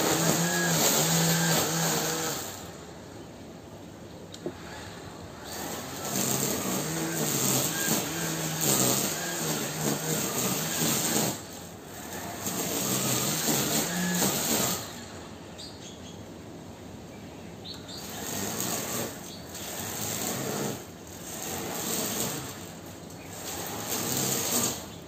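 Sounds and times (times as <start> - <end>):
electric grass trimmer whirring: 0.0 - 2.8, 4.4 - 15.2, 17.9 - 25.0.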